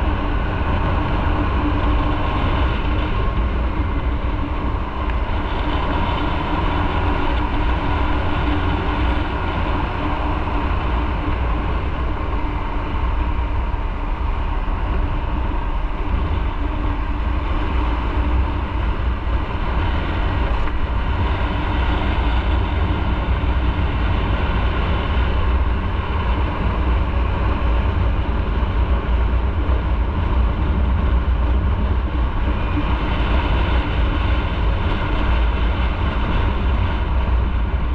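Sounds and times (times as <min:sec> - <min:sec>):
low wind rumble: 0:00.0 - 0:37.9.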